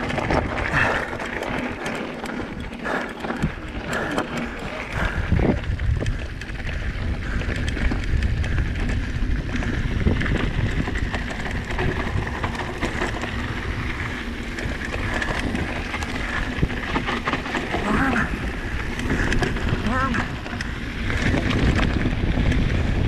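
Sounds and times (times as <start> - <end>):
bike clicks and rattles: 0.0 - 23.0
bike tyre noise: 0.0 - 23.0
wind rumble on microphone: 0.0 - 23.0.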